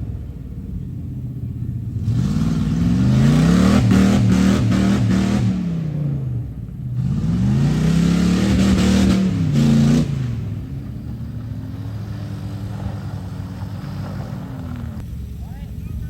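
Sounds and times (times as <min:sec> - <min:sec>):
truck engine revving: 0:00.0 - 0:15.4.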